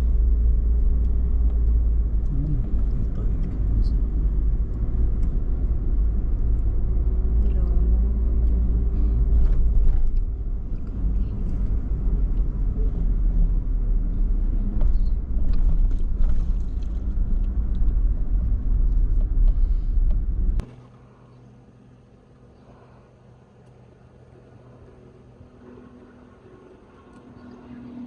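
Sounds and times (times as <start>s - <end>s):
car driving rumble: 0.0s - 28.0s.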